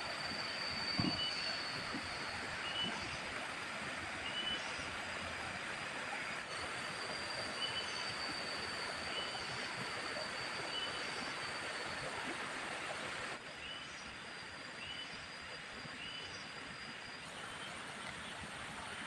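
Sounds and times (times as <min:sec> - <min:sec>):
thin high whine: 0:00.0 - 0:18.9
steady rushing hiss: 0:00.0 - 0:19.0.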